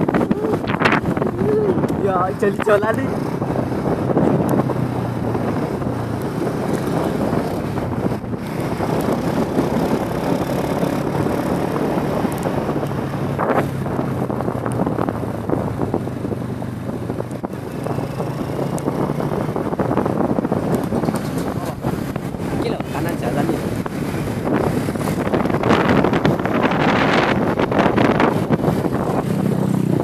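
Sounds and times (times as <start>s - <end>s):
scooter engine cruising: 0.0s - 30.0s
wind buffeting microphone: 0.0s - 30.0s.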